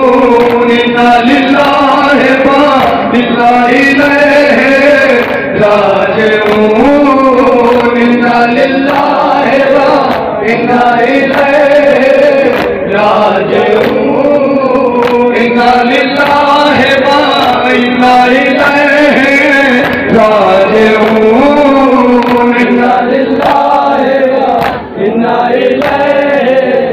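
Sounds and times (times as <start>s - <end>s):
men chanting in unison: 0.0s - 26.9s.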